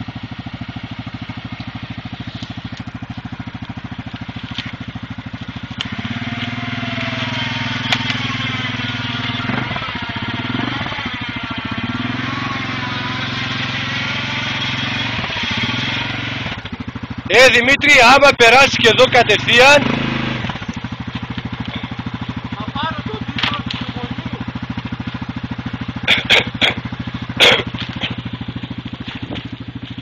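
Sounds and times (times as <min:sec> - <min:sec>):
atv engine revving in mud: 0:00.0 - 0:30.0.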